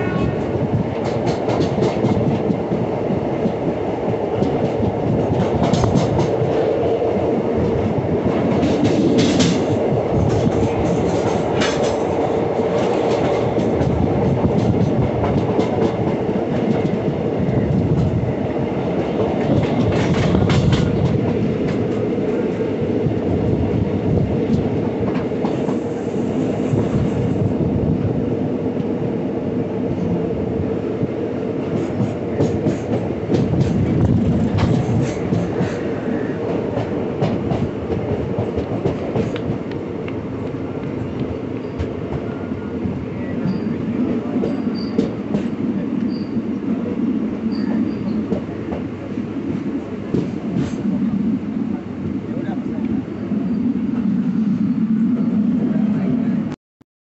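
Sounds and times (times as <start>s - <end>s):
train carriage rumbling: 0.0s - 56.6s.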